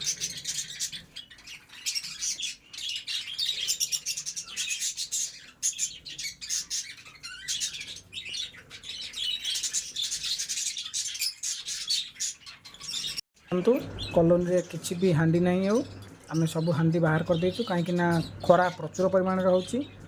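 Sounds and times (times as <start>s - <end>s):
caged birds chirping and squawking: 0.0s - 20.0s.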